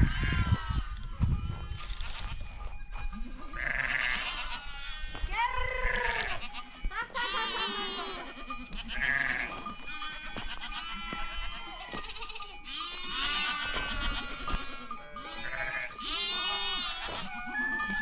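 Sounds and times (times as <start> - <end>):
goats and sheep bleating: 0.0 - 18.0.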